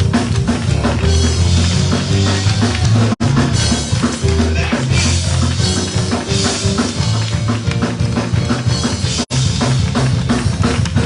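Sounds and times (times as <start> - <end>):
band playing praise music: 0.0 - 11.0
bass line: 0.0 - 11.0
driving drum kit: 0.0 - 11.0.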